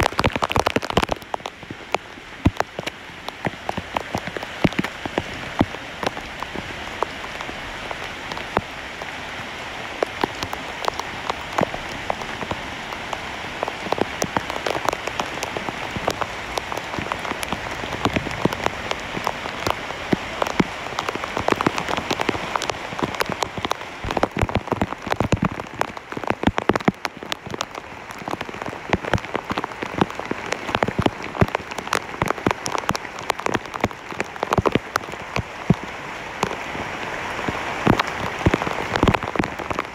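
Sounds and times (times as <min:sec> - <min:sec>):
raindrop strikes: 0:00.0 - 0:08.7, 0:10.0 - 0:36.7, 0:37.4 - 0:39.9
heavy rain on leaves: 0:00.0 - 0:39.9.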